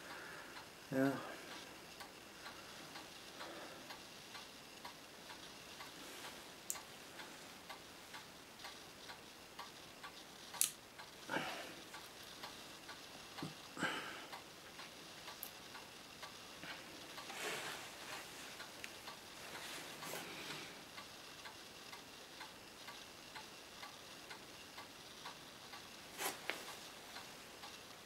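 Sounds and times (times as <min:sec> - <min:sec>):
faint steady ticking: 0:00.0 - 0:28.0.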